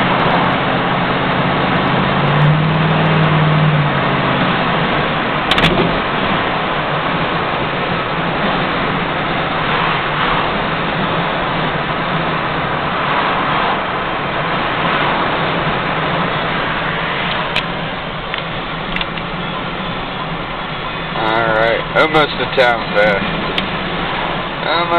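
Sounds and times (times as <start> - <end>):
truck engine and road noise: 0.0 - 24.9.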